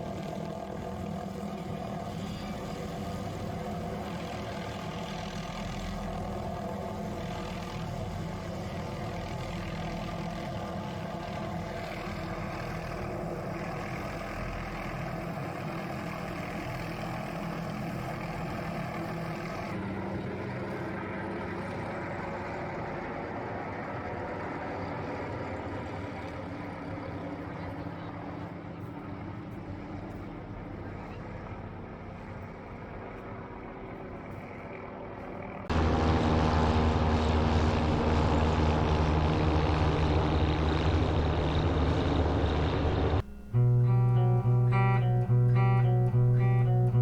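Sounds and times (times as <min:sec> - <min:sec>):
helicopter rotor drone: 0:00.0 - 0:47.0.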